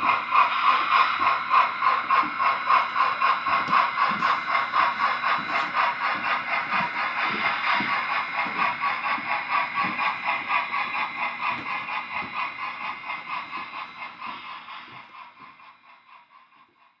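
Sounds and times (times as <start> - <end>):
model train mechanical whine: 0.0 - 17.0
model train rhythmic clicking: 0.0 - 17.0.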